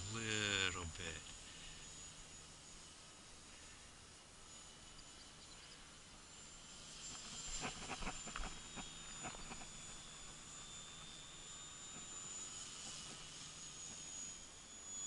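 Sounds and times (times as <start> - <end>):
model plane whine: 0.0 - 15.0.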